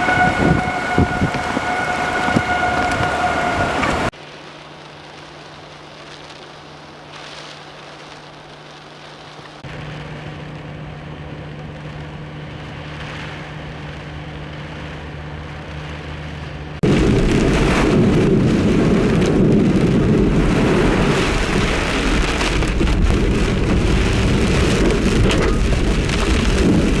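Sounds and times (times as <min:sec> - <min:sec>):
water spraying a driving vehicle: 0:00.0 - 0:04.1, 0:07.0 - 0:27.0
rain: 0:00.0 - 0:27.0.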